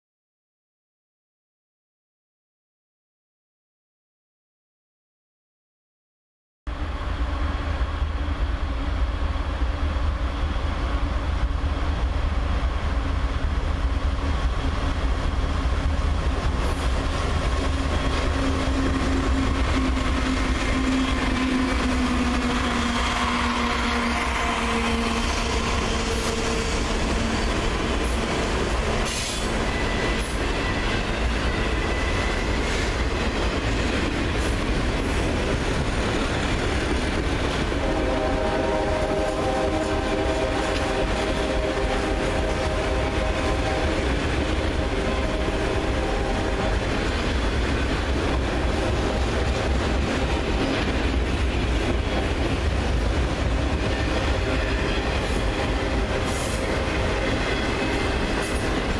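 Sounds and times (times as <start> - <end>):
diesel locomotive engine hum: 6.7 - 58.9
train wheels rumbling on rails: 6.7 - 58.9.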